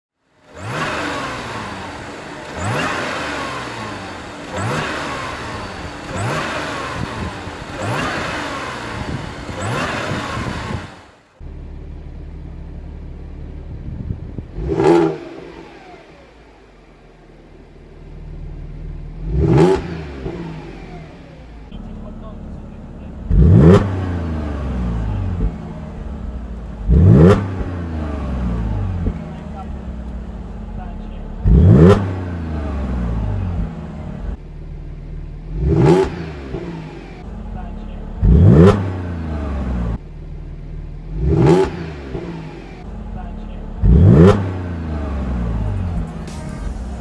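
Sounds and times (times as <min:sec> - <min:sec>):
car exhaust revving: 0:00.3 - 0:47.0.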